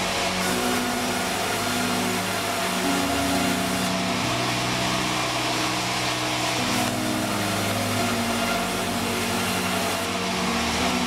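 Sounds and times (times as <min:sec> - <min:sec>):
sawmill saw whining: 0:00.0 - 0:11.0.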